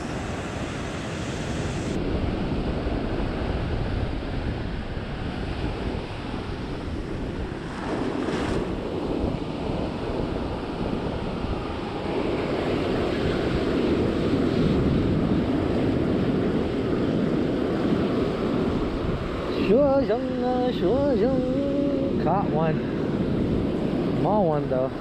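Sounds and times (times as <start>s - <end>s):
ocean surf breaking: 0.0s - 25.0s
wind rumbling on microphone: 0.0s - 25.0s.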